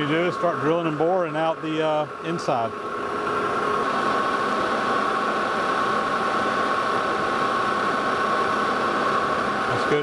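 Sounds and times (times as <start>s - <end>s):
metal lathe whining: 0.0s - 10.0s.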